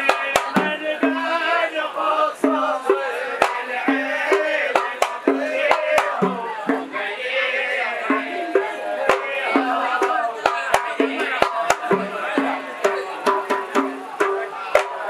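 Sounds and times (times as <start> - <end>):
hand drums beating: 0.0 - 7.1, 7.9 - 15.0
men singing together: 0.0 - 15.0.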